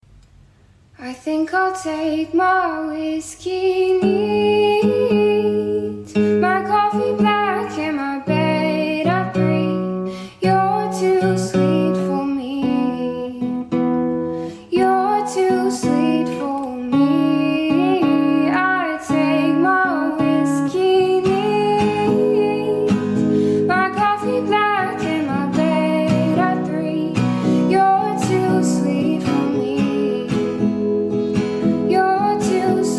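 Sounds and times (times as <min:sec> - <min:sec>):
person singing: 0:01.0 - 0:13.6, 0:14.6 - 0:32.9
strummed acoustic guitar: 0:04.0 - 0:32.9.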